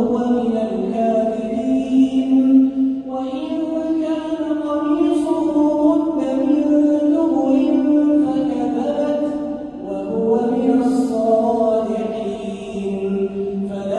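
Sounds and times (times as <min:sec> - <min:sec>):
man chanting melodically: 0:00.0 - 0:13.9.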